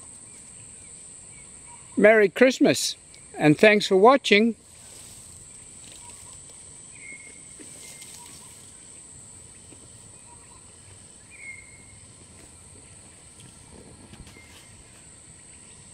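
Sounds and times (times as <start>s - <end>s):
insects droning: 0.0s - 15.9s.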